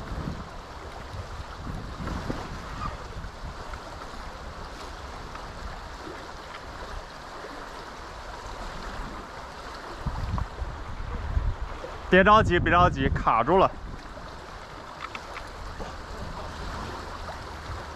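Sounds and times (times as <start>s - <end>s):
water current rushing: 0.0s - 17.9s
wind rumbling on microphone: 0.0s - 17.9s.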